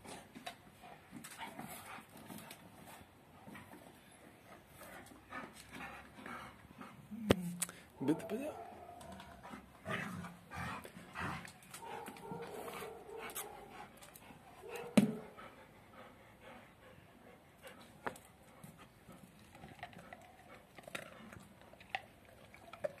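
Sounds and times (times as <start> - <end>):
dogs panting and sniffing: 0.0 - 23.0.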